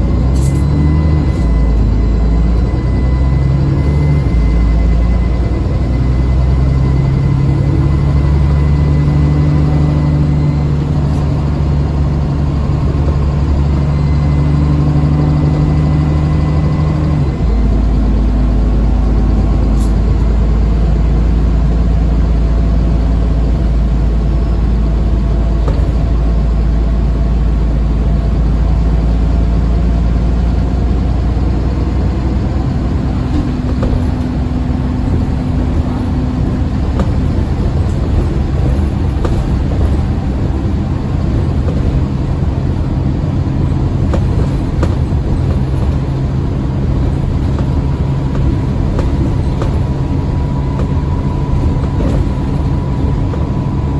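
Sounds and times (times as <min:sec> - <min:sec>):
bus engine running: 0:00.0 - 0:53.9
faint turbo whine: 0:00.0 - 0:53.9.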